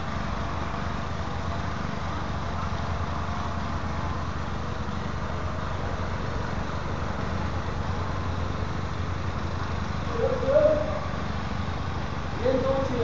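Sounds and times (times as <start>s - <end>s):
machinery drone: 0.0s - 13.0s.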